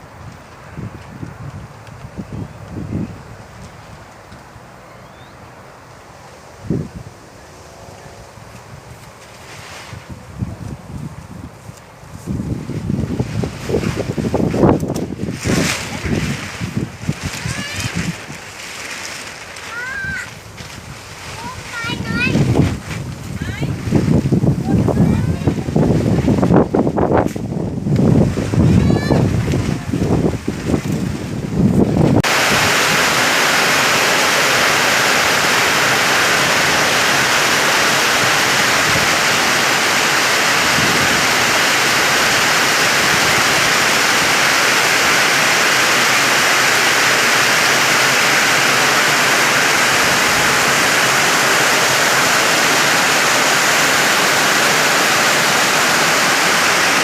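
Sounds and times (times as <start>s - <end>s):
heavy rain pouring: 9.6s - 57.0s.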